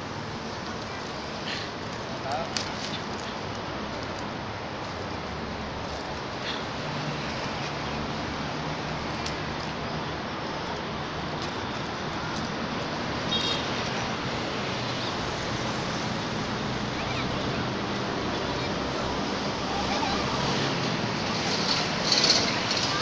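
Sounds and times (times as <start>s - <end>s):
rushing outdoor background noise: 0.0s - 23.0s.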